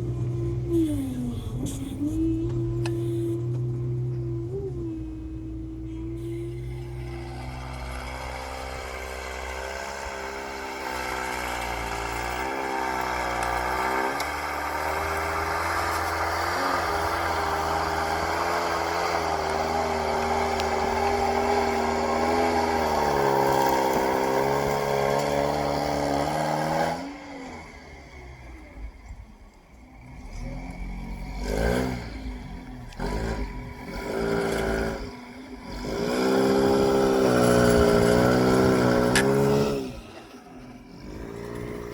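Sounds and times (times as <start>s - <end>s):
all-terrain vehicle engine revving: 0.0s - 41.9s.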